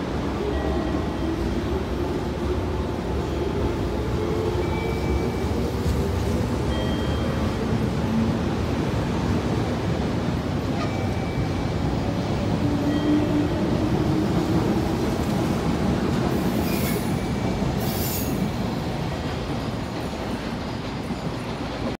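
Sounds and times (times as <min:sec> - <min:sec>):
train wheels rumbling: 0:00.0 - 0:21.9.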